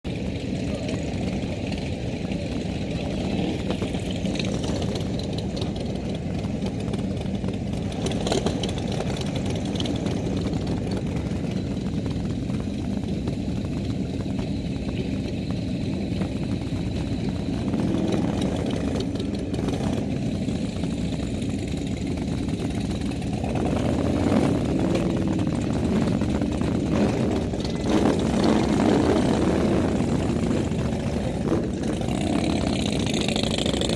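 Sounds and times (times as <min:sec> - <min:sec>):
motorcycle engines running: 0:00.1 - 0:33.9.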